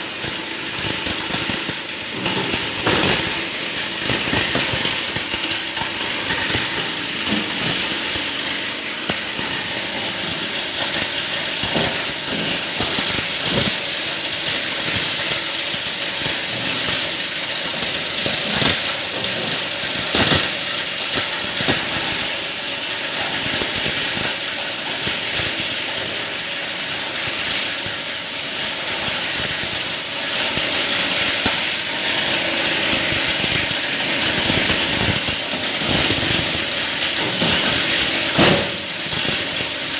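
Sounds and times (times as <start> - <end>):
plastic grinder whirring: 0.0 - 39.9.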